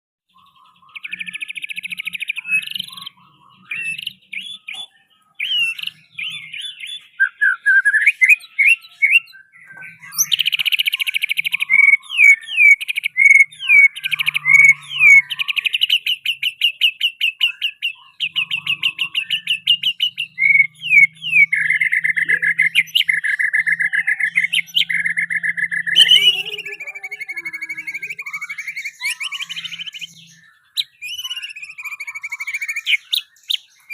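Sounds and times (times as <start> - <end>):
songbird singing trills: 0.3 - 33.9.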